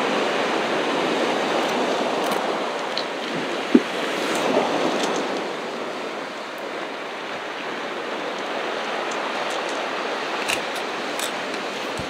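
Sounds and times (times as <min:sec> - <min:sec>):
ocean surf washing on shore: 0:00.0 - 0:12.0.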